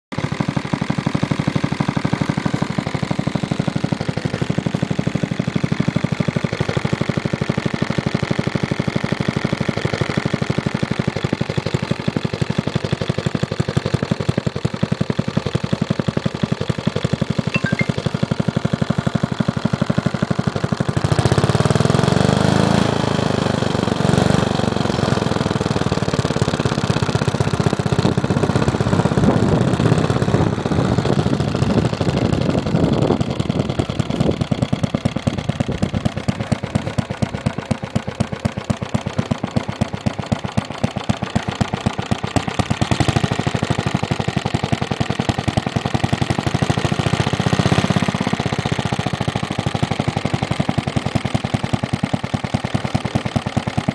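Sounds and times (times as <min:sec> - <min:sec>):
two-stroke engine running: 0:00.1 - 0:53.9.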